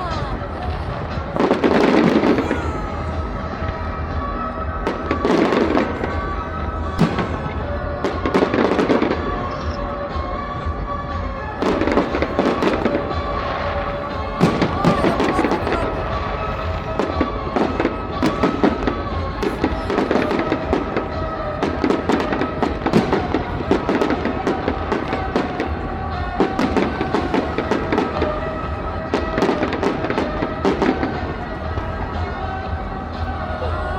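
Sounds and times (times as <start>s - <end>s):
fireworks bangs and crackles: 0.0s - 33.6s
music with held notes: 0.0s - 33.9s.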